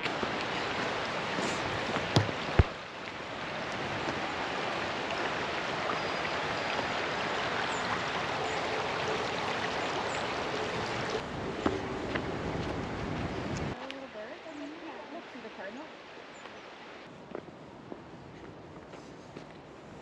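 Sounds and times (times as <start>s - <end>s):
wind rushing through trees: 0.0s - 20.0s.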